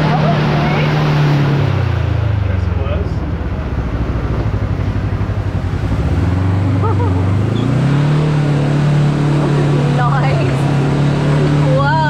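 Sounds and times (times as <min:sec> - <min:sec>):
off-road vehicle engine droning: 0:00.0 - 0:12.0.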